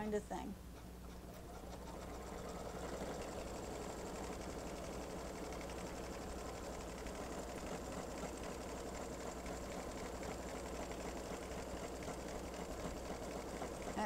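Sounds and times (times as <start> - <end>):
embroidery machine stitching: 1.0 - 14.0.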